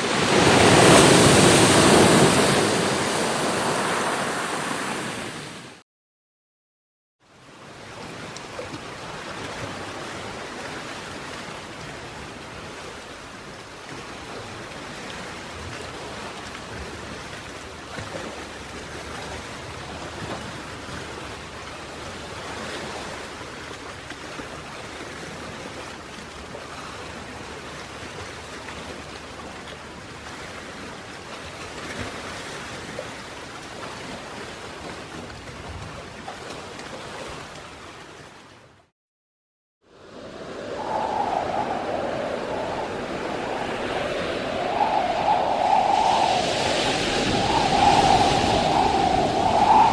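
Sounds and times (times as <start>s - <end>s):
sea waves breaking: 0.0s - 5.8s, 7.4s - 38.6s, 39.9s - 49.9s.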